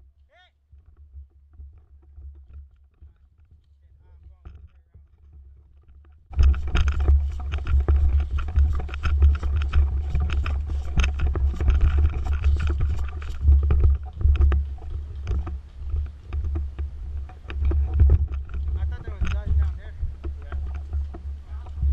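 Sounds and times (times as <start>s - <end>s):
rustling and crackling leaves: 0.0s - 21.9s
microphone buffeting rumble: 0.7s - 21.9s.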